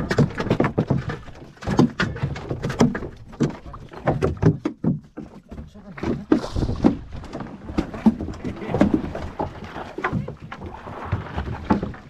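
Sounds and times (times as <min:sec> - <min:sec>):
water slapping boat hull: 0:00.0 - 0:12.0.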